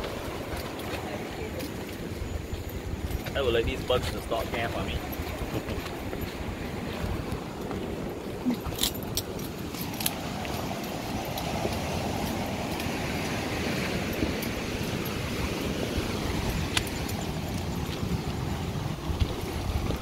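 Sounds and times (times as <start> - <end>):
wind buffeting microphone: 0.0 - 20.0
light metallic clinks: 0.4 - 19.4.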